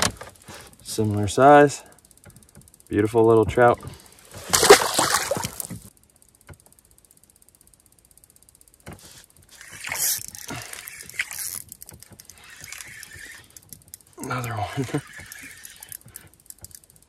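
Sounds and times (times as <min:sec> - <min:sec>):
fishing reel clicking: 0:00.5 - 0:04.2, 0:05.9 - 0:17.0.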